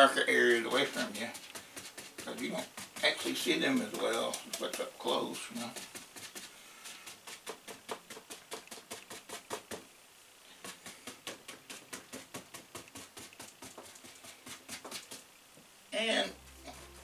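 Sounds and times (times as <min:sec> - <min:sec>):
paint brush tapping on canvas: 0:00.5 - 0:09.9, 0:10.6 - 0:15.3.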